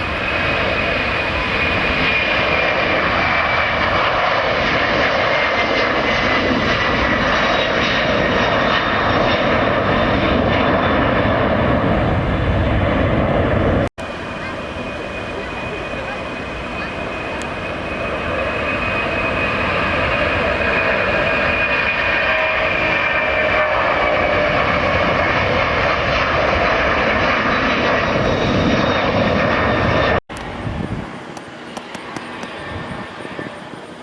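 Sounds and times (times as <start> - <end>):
jet airliner engines passing: 0.0 - 34.0.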